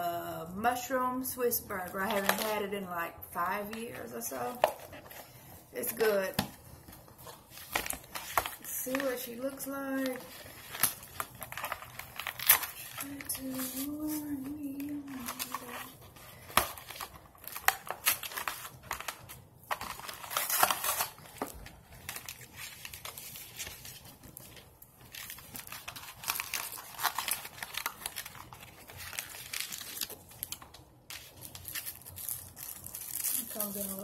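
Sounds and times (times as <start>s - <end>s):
paper wrapper crinkling: 6.8s - 34.0s.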